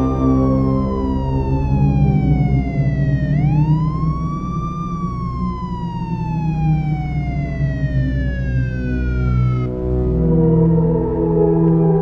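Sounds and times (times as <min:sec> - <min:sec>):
low sustained drone: 0:00.0 - 0:12.0
siren-like wailing tone: 0:00.0 - 0:12.0.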